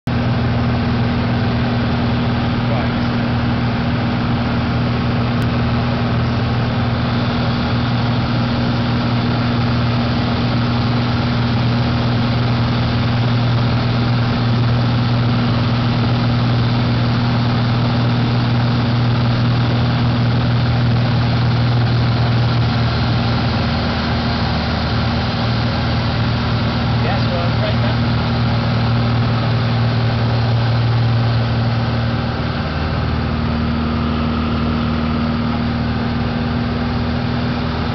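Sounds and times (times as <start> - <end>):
light aircraft engine and propeller drone: 0.1 - 37.9.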